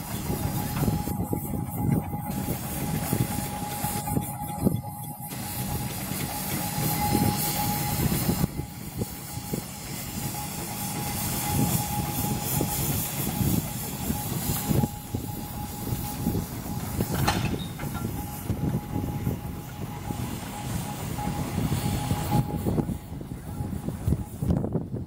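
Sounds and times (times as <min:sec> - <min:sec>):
steady high whine: 0:00.0 - 0:24.8.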